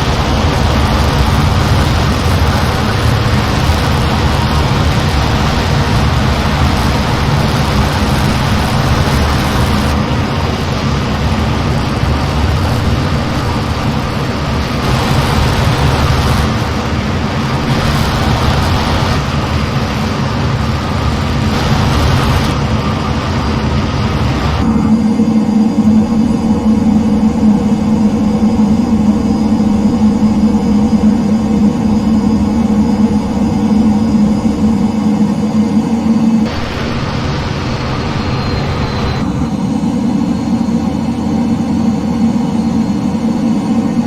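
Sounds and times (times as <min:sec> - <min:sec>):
loud engine drone: 0:00.0 - 0:44.0.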